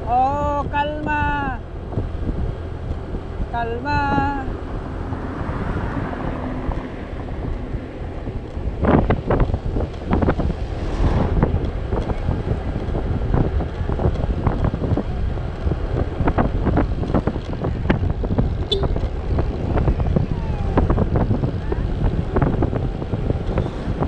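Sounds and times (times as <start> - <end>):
scooter engine and road rumble: 0.0 - 24.0
wind buffeting microphone: 0.0 - 24.0.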